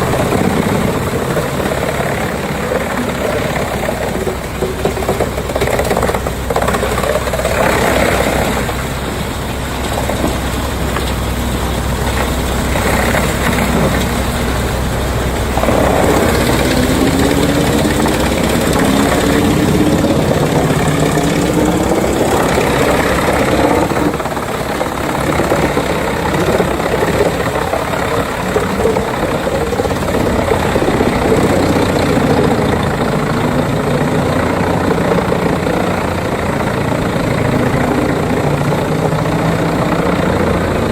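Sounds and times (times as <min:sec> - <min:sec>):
constant rushing noise: 0:00.0 - 0:40.9
wood chipper engine running: 0:00.0 - 0:40.9.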